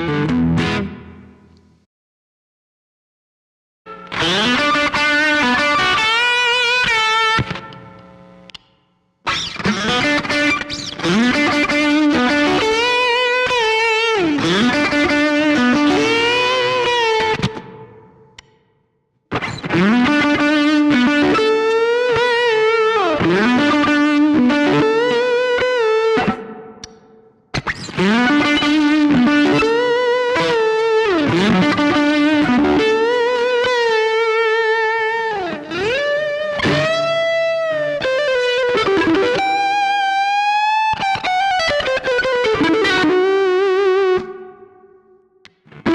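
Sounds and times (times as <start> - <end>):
electric guitar lick: 0.0 - 1.8, 3.9 - 18.7, 19.3 - 45.9.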